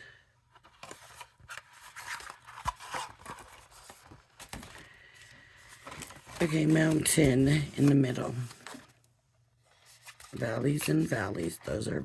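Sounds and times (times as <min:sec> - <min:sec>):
card stock rustling and crinkling: 0:00.5 - 0:12.0.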